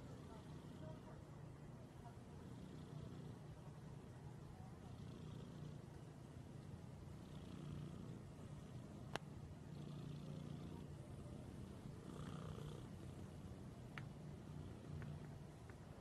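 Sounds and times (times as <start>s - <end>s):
cat purring: 0.0s - 1.3s, 2.2s - 16.0s.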